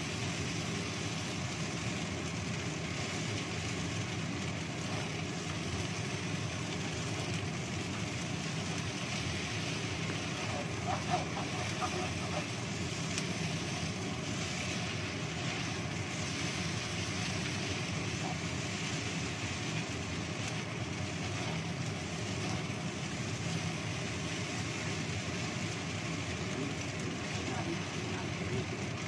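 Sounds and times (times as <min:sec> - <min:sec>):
gas burner rushing: 0:00.0 - 0:29.0
noodles stir-fried in wok: 0:00.0 - 0:29.0.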